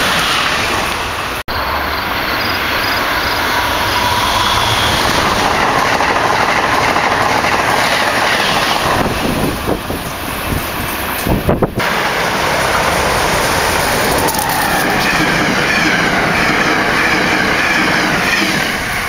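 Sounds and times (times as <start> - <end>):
high-speed train rushing past: 0.0 - 19.0.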